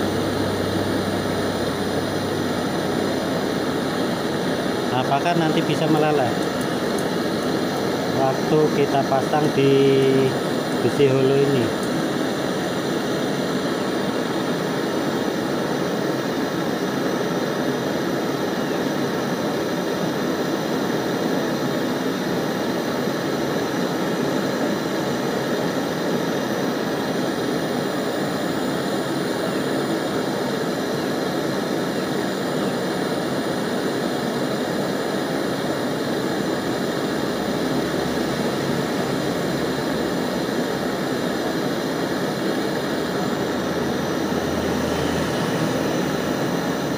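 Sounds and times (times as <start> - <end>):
hand torch flame rushing: 0.0 - 46.9.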